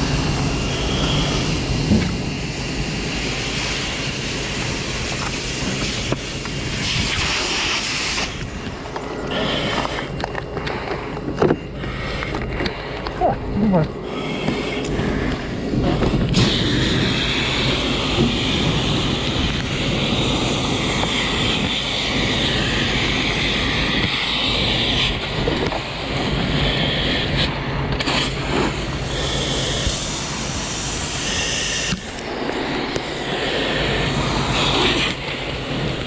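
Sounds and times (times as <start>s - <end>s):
hose spraying water: 0.0s - 10.1s, 13.7s - 36.0s
low rumble: 0.0s - 36.0s.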